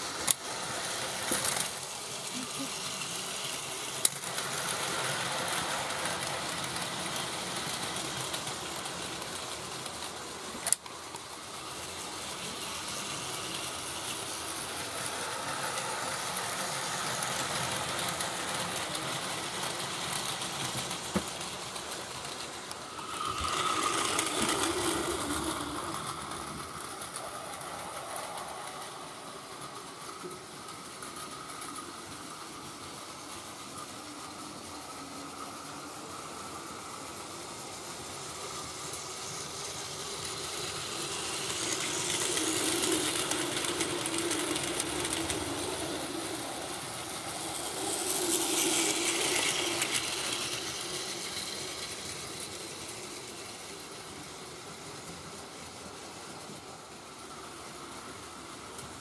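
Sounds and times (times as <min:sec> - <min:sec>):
toy train motor whirring: 0:00.0 - 0:59.0.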